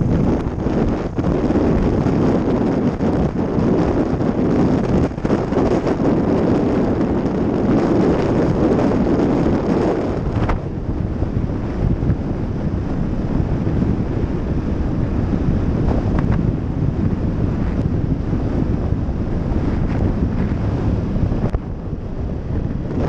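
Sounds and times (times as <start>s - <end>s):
low vehicle rumble: 0.0s - 23.0s
wind buffeting microphone: 0.0s - 23.0s.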